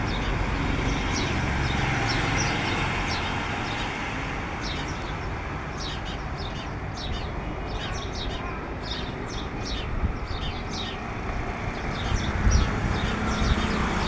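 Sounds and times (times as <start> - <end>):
road traffic rumble: 0.0 - 14.0
small birds chirping: 0.0 - 14.0.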